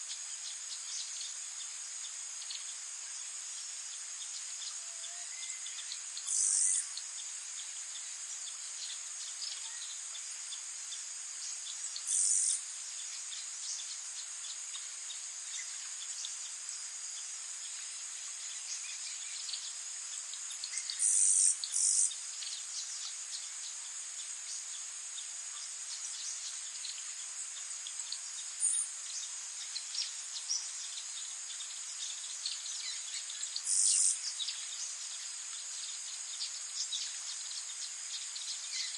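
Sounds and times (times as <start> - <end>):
high-pitched insect chorus: 0.0 - 38.9
faint bird chirps: 3.5 - 17.7, 18.4 - 38.9.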